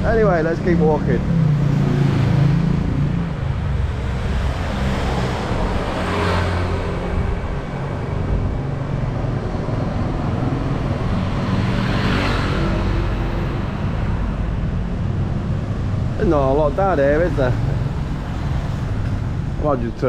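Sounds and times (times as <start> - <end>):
vehicle engines running: 0.0 - 20.0
vehicles passing close by: 0.0 - 20.0.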